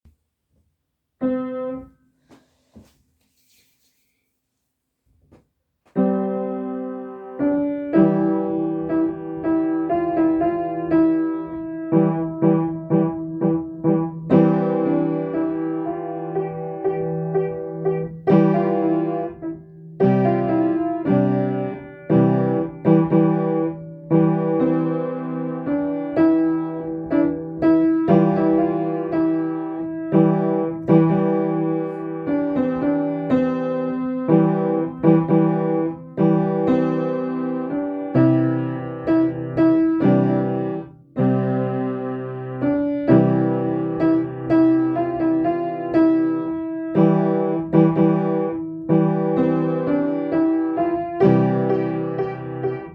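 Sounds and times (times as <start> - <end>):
calm solo piano piece: 1.2 - 2.1, 5.9 - 52.9.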